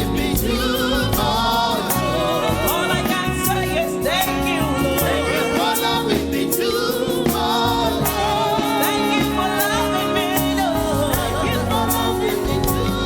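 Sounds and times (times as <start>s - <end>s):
gospel voices singing with band: 0.0s - 13.0s.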